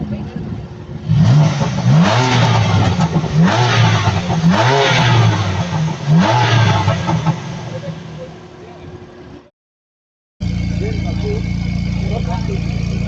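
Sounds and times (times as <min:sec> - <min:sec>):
car engine revving: 0:00.8 - 0:09.4, 0:10.4 - 0:13.0.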